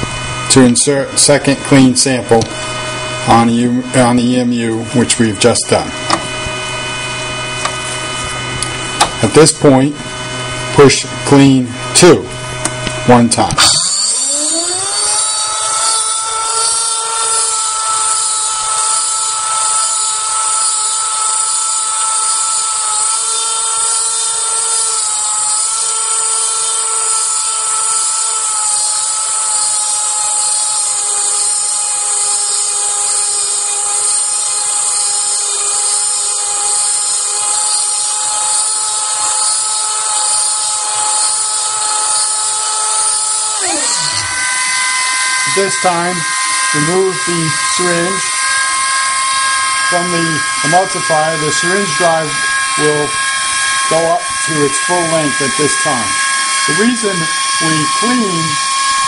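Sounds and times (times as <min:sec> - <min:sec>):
electric motor whine with hiss: 0:00.0 - 0:59.0.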